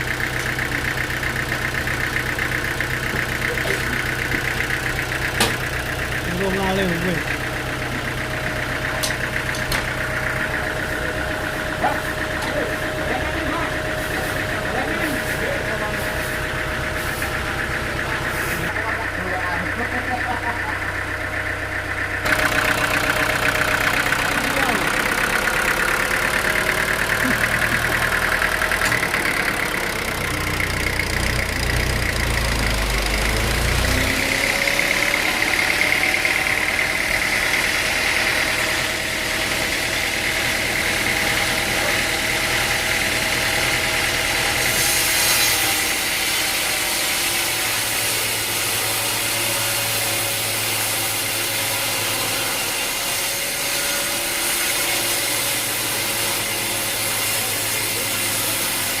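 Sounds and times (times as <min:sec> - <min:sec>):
high machine whine: 0:00.0 - 0:59.0
motor hum: 0:00.0 - 0:59.0.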